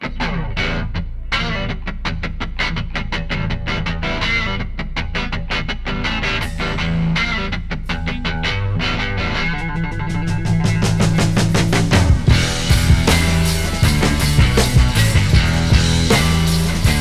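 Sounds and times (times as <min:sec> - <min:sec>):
plucked guitar music with bass: 0:00.0 - 0:17.0.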